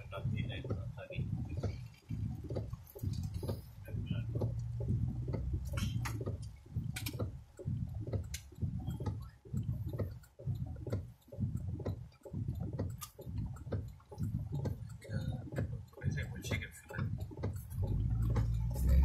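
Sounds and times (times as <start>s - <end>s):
sharp ticks: 0.0s - 19.0s
windshield wipers sweeping: 0.0s - 19.0s.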